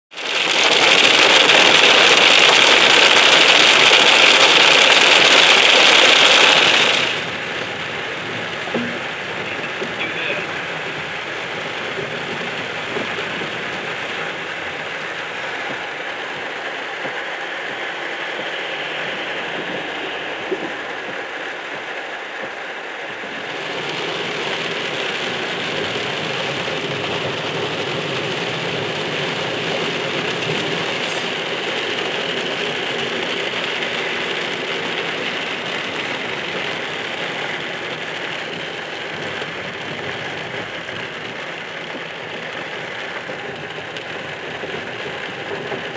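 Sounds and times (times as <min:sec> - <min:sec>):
rain on windshield: 0:00.1 - 0:45.9
tyre hiss on wet road: 0:00.2 - 0:45.9.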